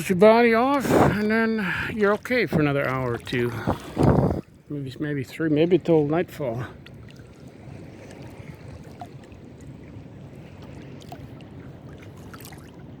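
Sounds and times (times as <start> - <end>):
water sloshing and lapping: 0.0 - 13.0.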